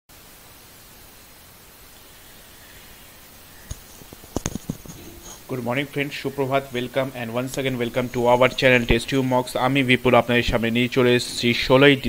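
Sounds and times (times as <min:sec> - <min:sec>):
microphone hiss: 0:00.1 - 0:12.0.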